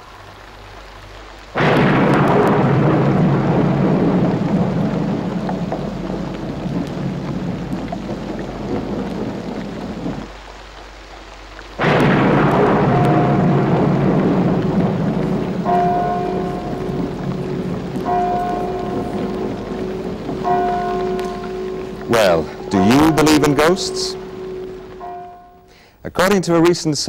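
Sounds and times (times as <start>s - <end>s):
thunderclap rumbling: 1.4s - 25.7s.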